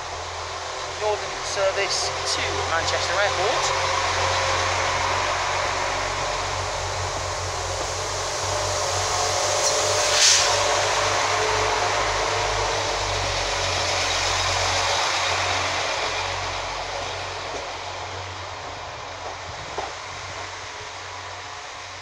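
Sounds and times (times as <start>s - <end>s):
diesel train engine hum: 0.0s - 22.0s
train carriages rushing past: 0.0s - 22.0s.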